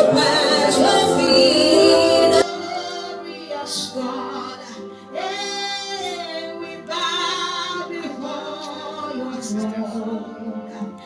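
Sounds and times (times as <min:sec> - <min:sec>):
sustained musical backing: 0:00.0 - 0:11.0
woman singing: 0:00.0 - 0:11.0.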